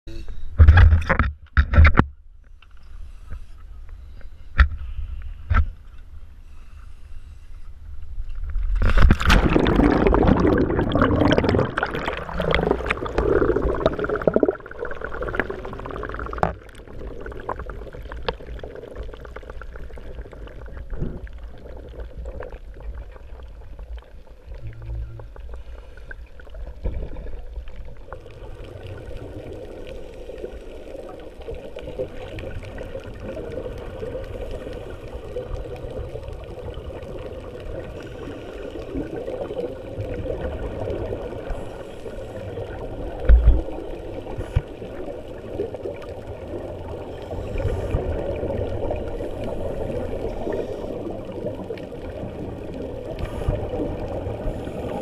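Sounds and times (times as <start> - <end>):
underwater bubbling and crackling: 0.2 - 55.0
underwater rush of water: 8.4 - 55.0.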